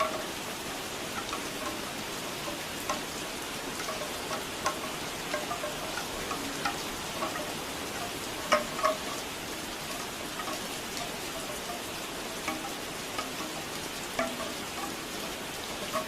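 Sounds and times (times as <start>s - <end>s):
bamboo wind chimes knocking: 0.0s - 16.0s
steady rain: 0.0s - 16.0s.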